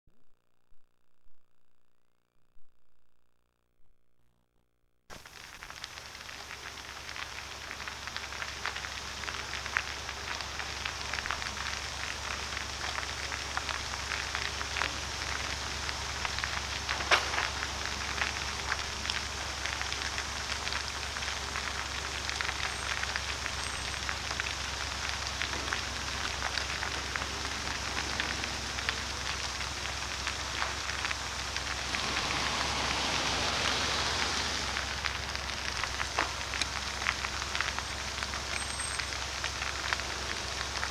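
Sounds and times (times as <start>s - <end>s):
fire crackling and popping: 5.1s - 40.9s
low hum: 5.9s - 40.9s.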